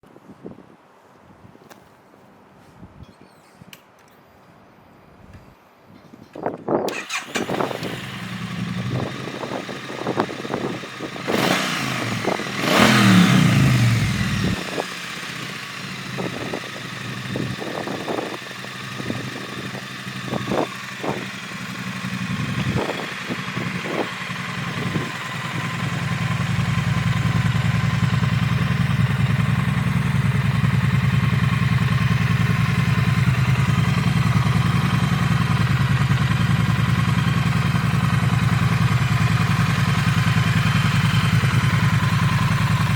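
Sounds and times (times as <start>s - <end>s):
motorcycle engine revving and idling: 6.9s - 42.9s.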